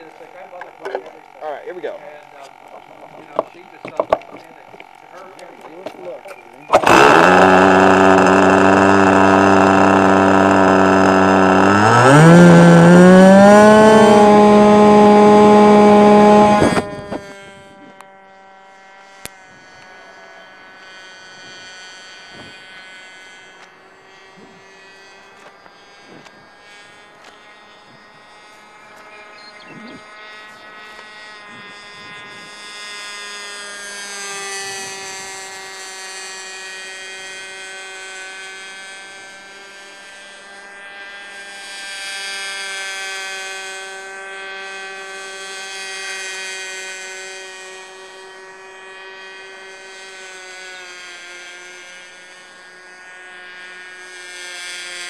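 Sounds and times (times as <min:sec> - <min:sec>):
distant model airplane motor buzzing: 0:00.0 - 0:55.0.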